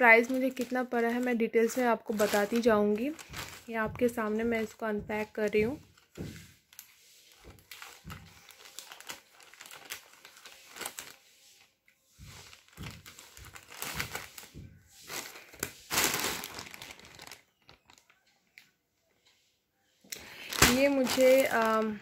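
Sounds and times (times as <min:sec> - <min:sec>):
plastic bag crinkling: 0:00.0 - 0:18.6, 0:20.2 - 0:22.0.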